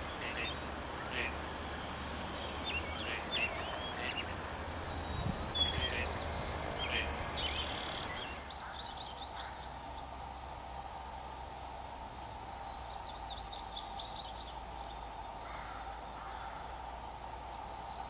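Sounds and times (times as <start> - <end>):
small birds chirping: 0.0 - 10.4, 12.0 - 18.0
low background rumble: 0.0 - 18.0.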